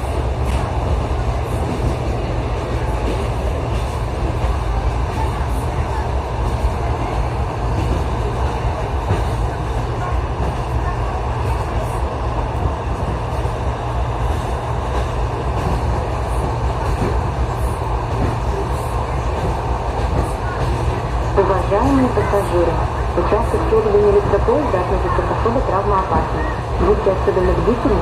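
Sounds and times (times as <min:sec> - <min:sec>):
electric train rumbling: 0:00.0 - 0:28.0.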